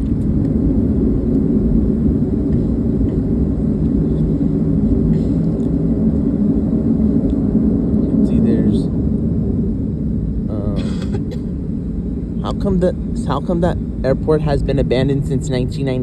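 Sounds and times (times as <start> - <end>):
rushing air: 0.0 - 15.9
faint steady hum: 0.0 - 16.0
jet engines droning: 0.0 - 16.0.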